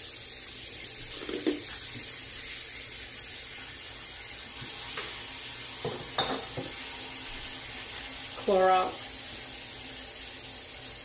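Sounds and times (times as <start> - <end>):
faucet running into sink: 0.0 - 11.0.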